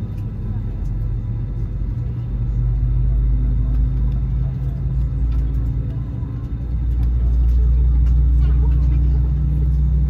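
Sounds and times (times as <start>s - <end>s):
aircraft cabin rumble: 0.0s - 10.0s
faint hum: 0.0s - 10.0s.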